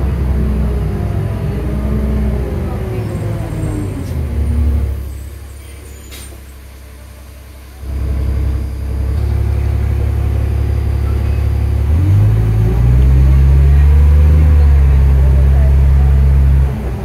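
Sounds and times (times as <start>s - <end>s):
bus diesel engine accelerating: 0.0s - 17.0s.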